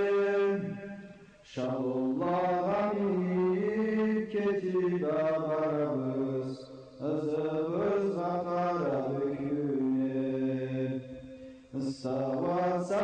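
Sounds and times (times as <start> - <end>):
solo voice chanting: 0.0 - 13.0.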